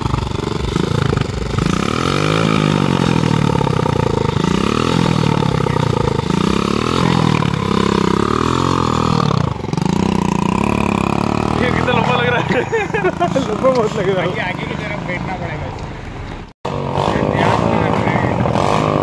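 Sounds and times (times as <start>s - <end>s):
two-stroke engine revving: 0.0s - 15.6s, 16.6s - 19.0s.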